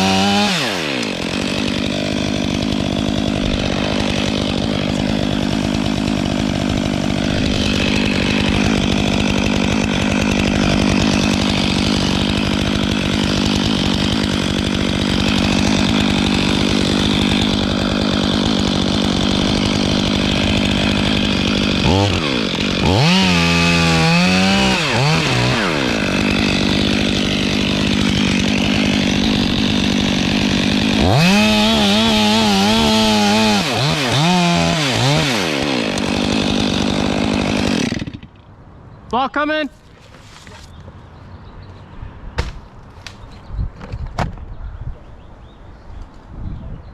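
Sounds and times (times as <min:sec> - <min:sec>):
chainsaw cutting: 0:00.0 - 0:38.4.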